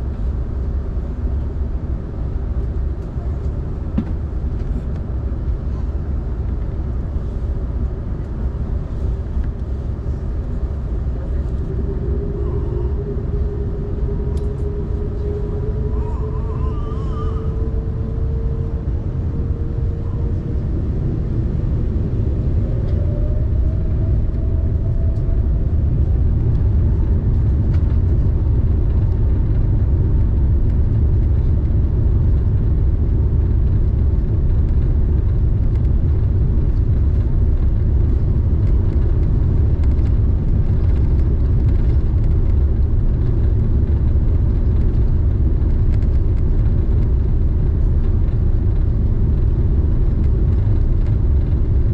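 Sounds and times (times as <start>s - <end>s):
jet engines rumbling: 0.0s - 51.9s
rising engine whine: 0.0s - 51.9s.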